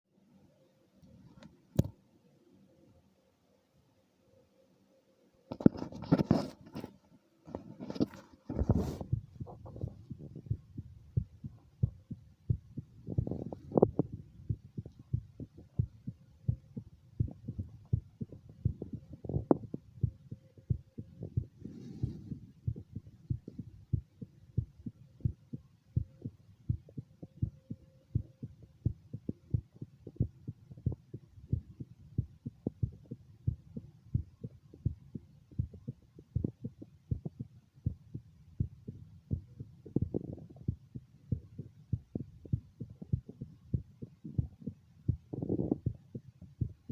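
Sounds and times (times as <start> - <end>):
heartbeat thuds: 7.5 - 46.9.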